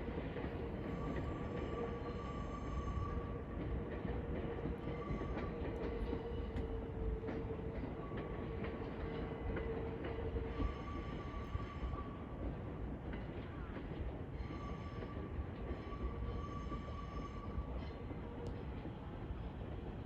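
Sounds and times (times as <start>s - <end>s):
train rumbling with whine: 0.0s - 20.0s.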